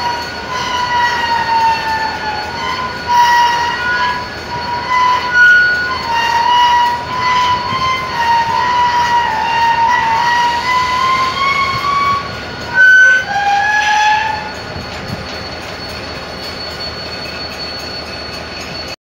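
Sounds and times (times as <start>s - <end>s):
train rolling rumble: 0.0s - 19.0s
train wheels squealing on rails: 0.0s - 19.0s.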